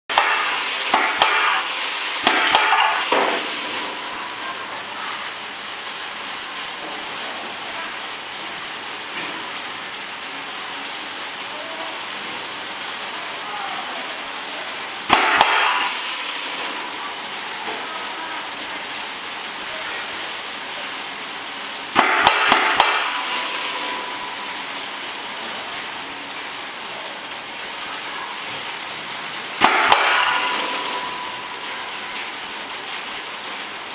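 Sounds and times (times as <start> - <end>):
granules pouring hiss: 0.1 - 33.9.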